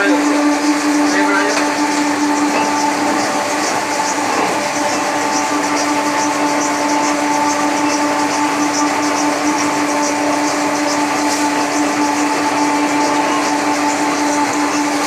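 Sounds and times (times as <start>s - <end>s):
metallic ticking of rollers: 0.0s - 15.0s
motor hum: 0.0s - 15.0s.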